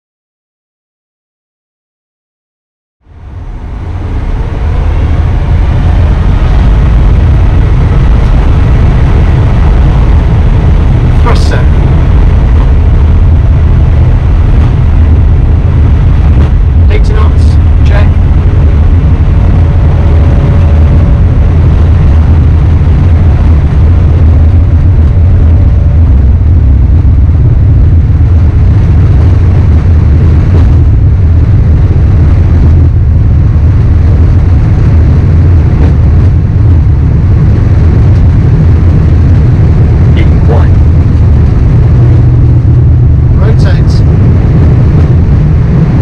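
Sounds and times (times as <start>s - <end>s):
airliner engine rumble: 3.0s - 46.0s.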